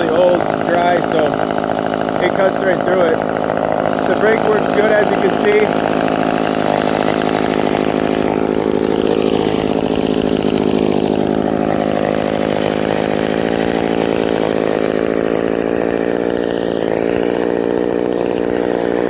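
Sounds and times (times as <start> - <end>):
chainsaw idling fast: 0.0 - 19.0.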